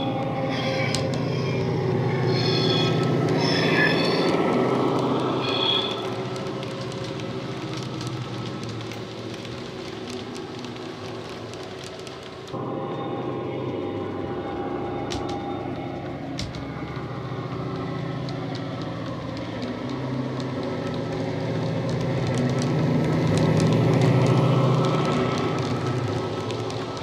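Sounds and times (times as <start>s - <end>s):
model train coaches clicking on track: 0.0s - 12.7s, 15.0s - 27.0s.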